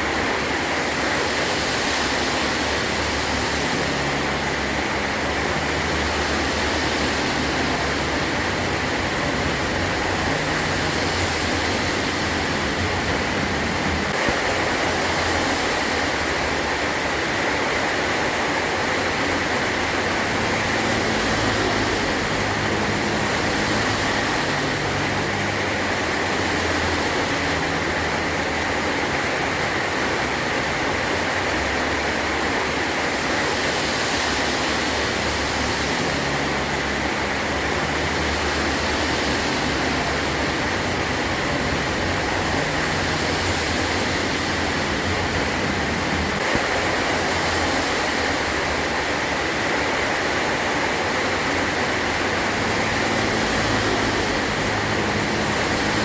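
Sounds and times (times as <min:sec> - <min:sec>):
heavy rain on a tin roof: 0:00.0 - 0:56.0.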